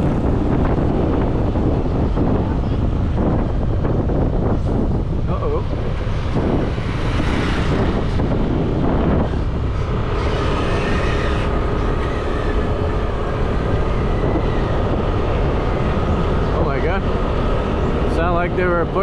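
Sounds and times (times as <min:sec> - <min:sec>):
motorbike engine at speed: 0:00.0 - 0:19.0
wind rushing over microphone: 0:00.0 - 0:19.0.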